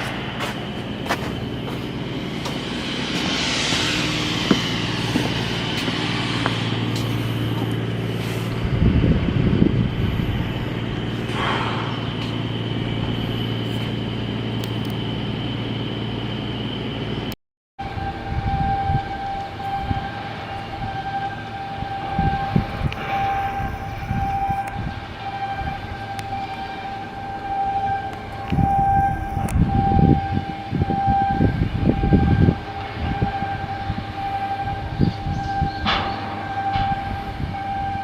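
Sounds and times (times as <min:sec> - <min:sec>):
high whine: 0:00.0 - 0:38.0
machinery humming: 0:00.0 - 0:38.0.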